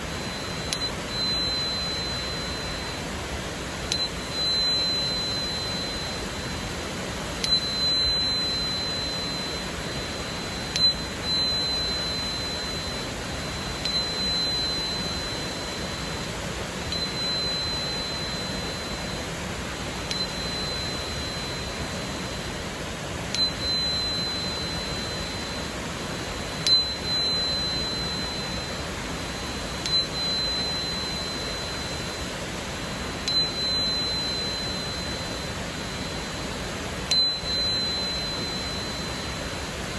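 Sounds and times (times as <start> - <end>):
tuning fork tapped on crystal: 0.0 - 3.2, 3.8 - 39.9
clear high ringing tone: 0.0 - 39.9.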